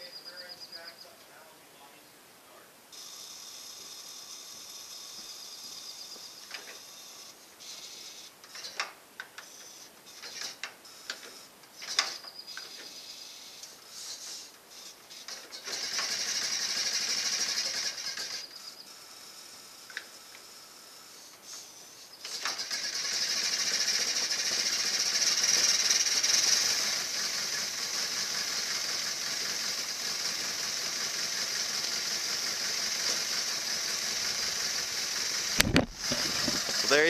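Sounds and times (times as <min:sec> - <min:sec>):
ignition coil buzz: 0:02.9 - 0:37.0.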